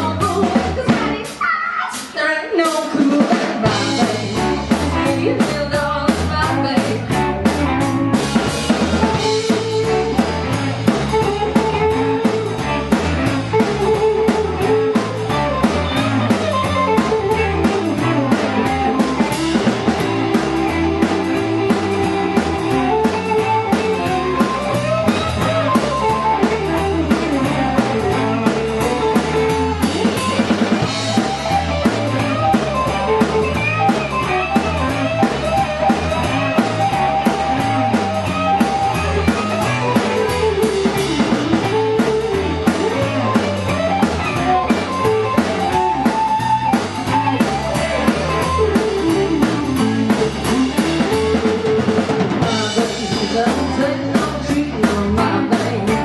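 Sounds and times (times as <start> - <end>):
drum kit beat: 0.0 - 56.0
electric guitars playing: 0.0 - 56.0.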